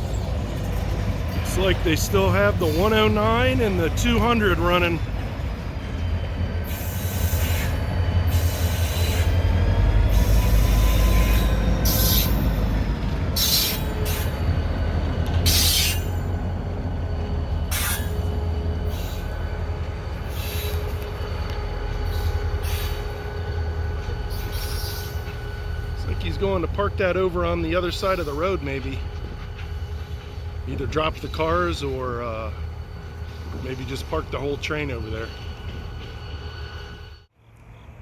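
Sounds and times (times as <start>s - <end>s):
steel wheels squealing: 0.0s - 37.3s
freight train rumble: 0.0s - 38.0s.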